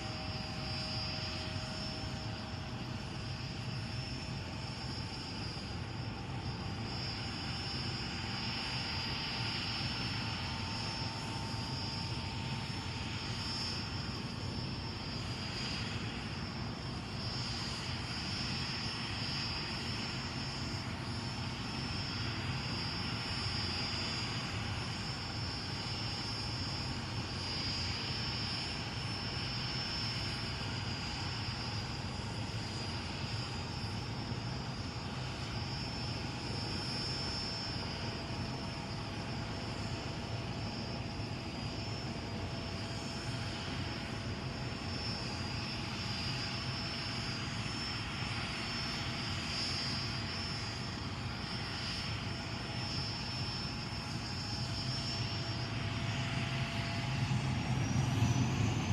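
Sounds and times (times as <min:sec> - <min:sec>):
turbine whine: 0:00.0 - 0:58.9.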